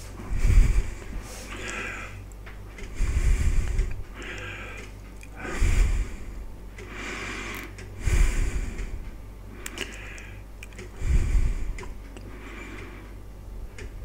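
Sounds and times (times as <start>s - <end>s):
person breathing: 0.0s - 14.0s.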